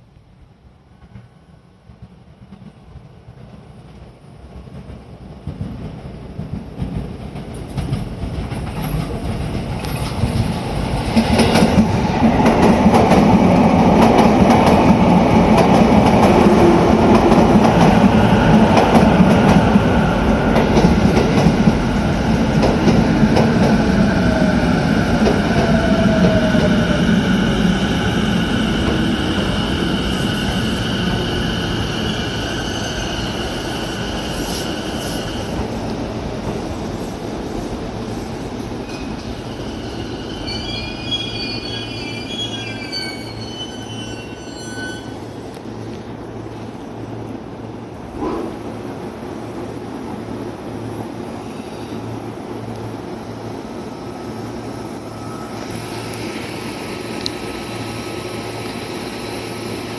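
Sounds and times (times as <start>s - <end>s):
electric train running past: 0.4s - 59.9s.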